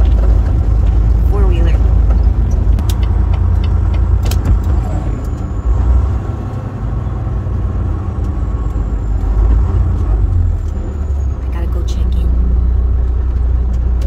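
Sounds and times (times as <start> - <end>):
road noise: 0.0 - 14.0
truck diesel engine rumble: 0.0 - 14.0.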